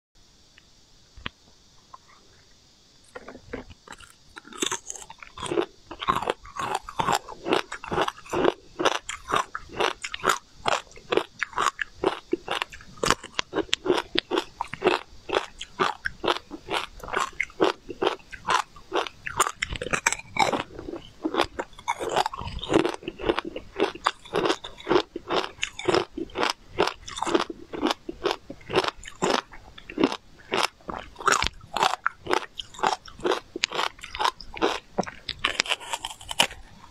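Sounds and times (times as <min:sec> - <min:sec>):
ice crunching between teeth: 0:03.2 - 0:36.9.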